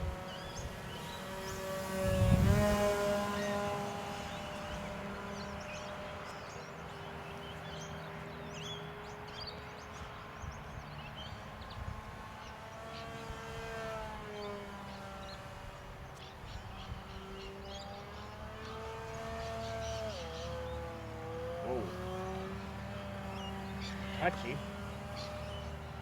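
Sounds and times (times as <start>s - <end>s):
model plane motor whining: 0.0s - 26.0s
small birds chirping: 0.0s - 26.0s.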